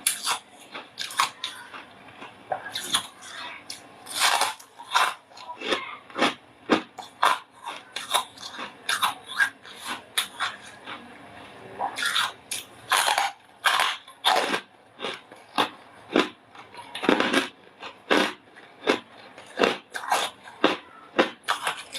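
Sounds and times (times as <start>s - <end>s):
frost being bitten and chewed: 0.0s - 11.1s, 11.8s - 21.9s.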